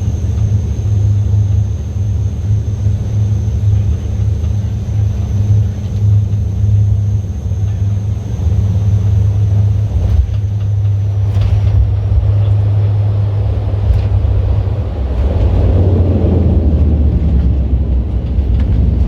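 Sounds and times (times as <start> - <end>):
car interior road rumble: 0.0 - 19.0.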